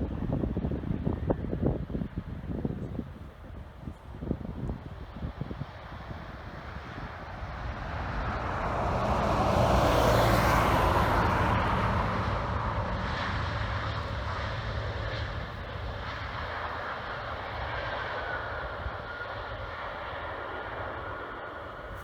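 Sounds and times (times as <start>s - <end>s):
jet airliner landing: 0.0s - 22.0s.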